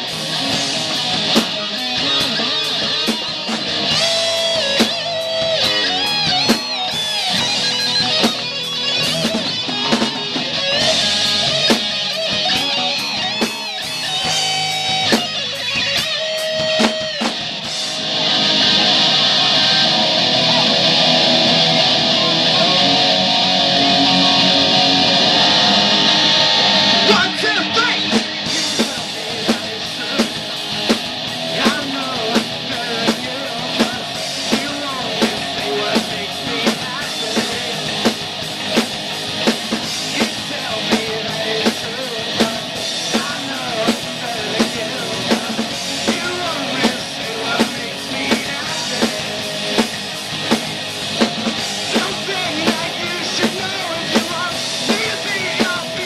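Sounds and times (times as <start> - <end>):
bass guitar: 0.0 - 56.0
distorted electric guitar: 0.0 - 56.0
drum kit: 0.0 - 56.0.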